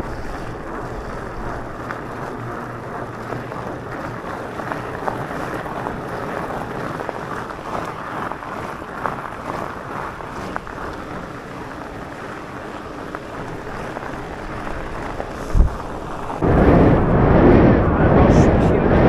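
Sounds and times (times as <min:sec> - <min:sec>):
tyres rumbling over gravel: 0:00.0 - 0:16.6
wind on microphone: 0:00.0 - 0:19.0.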